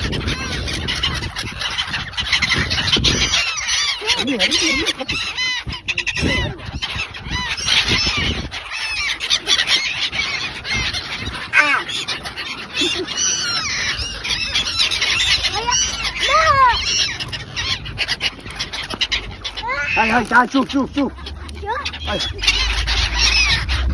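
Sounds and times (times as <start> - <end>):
gulls calling: 0.0 - 23.9.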